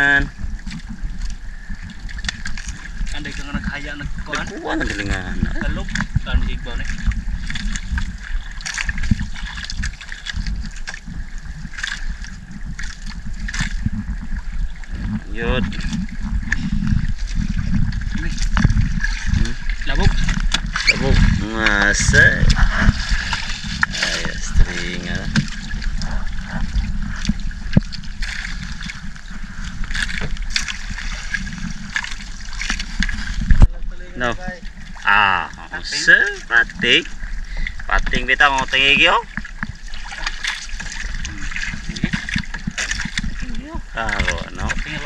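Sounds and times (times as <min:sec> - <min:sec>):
steady low rumble: 0:00.0 - 0:45.0.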